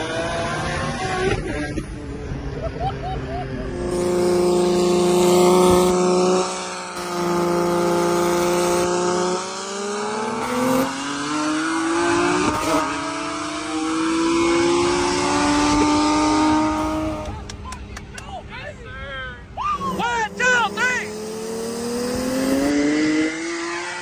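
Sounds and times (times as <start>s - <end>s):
car engine revving high: 0.0s - 17.9s, 19.4s - 24.0s.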